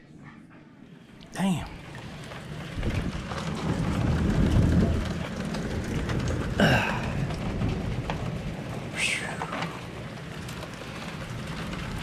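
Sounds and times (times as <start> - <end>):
rain and hail on wooden deck: 1.2 - 12.0.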